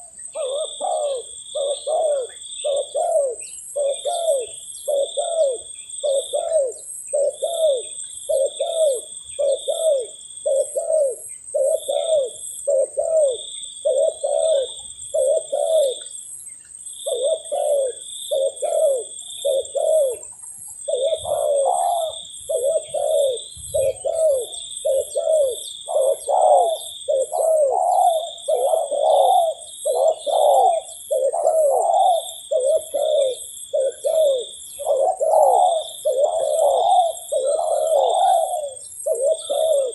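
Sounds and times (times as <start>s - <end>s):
doves cooing: 0.0s - 16.2s, 17.0s - 39.9s.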